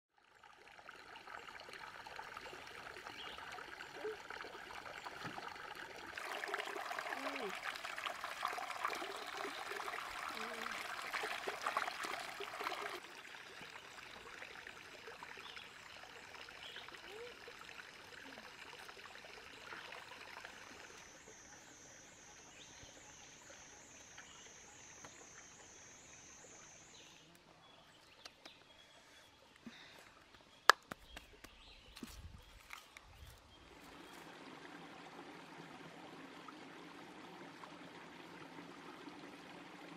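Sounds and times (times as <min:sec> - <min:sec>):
stream water splashing over rocks: 0:00.2 - 0:27.1, 0:33.6 - 0:39.9.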